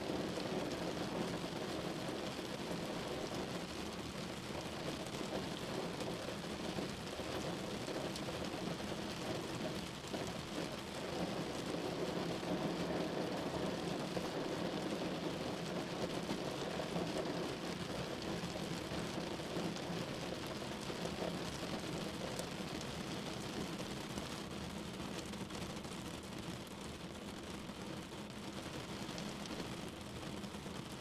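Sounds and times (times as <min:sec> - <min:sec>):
rain on a window: 0:00.0 - 0:31.0.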